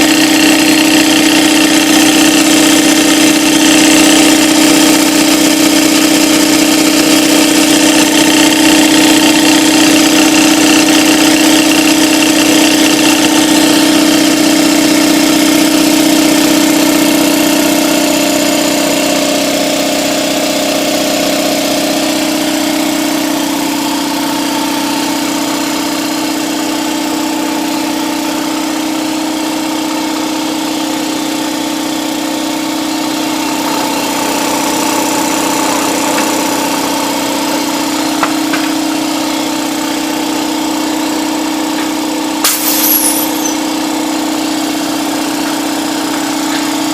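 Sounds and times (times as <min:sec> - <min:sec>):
electric air compressor running: 0:00.0 - 0:46.9.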